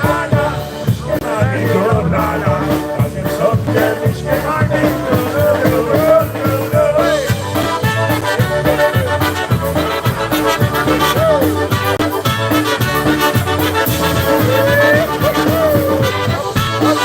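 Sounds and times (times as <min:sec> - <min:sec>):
polka band playing: 0:00.0 - 0:17.0.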